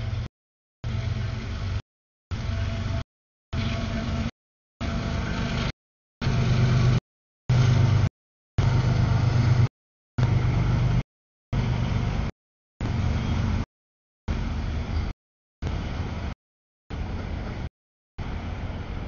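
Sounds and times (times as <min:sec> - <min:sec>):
freight train rumbling: 0:00.0 - 0:11.0, 0:11.6 - 0:13.7, 0:14.3 - 0:19.0.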